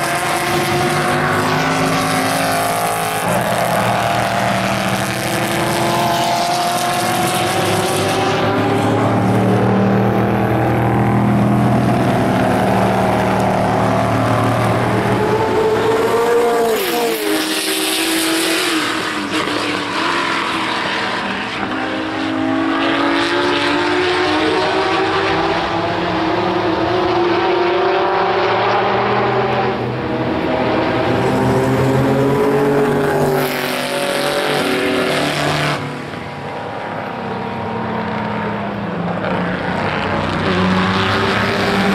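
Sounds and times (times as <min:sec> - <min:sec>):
racing car engines at high revs: 0:00.0 - 0:41.9.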